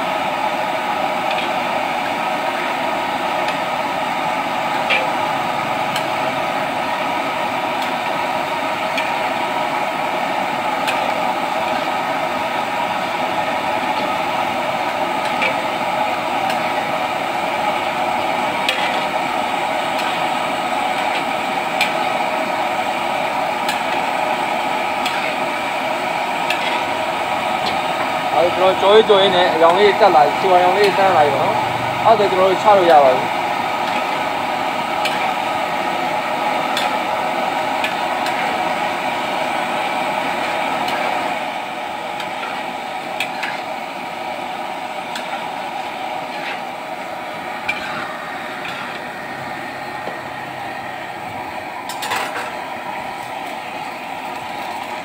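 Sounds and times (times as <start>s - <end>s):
oil sizzling: 0.0s - 55.0s
sharp pops of frying: 1.2s - 28.3s, 33.6s - 50.4s, 51.8s - 53.6s.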